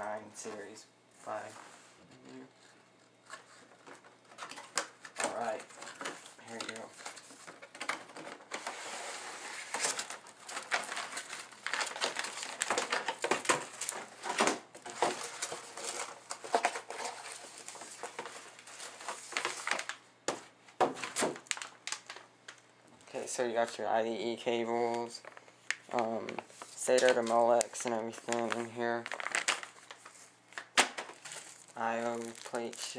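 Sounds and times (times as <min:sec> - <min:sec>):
cardboard and plastic packaging rustling: 0:03.2 - 0:32.9.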